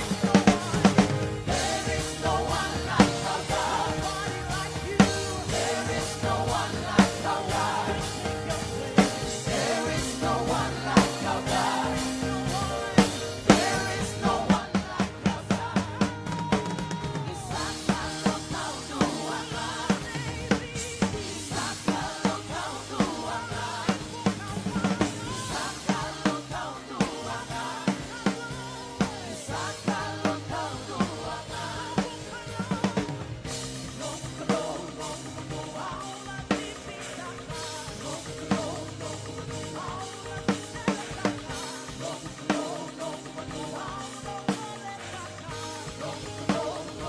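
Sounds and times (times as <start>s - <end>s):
drum kit beat: 0.0s - 47.0s
sustained keyboard or guitar chords: 0.0s - 47.0s.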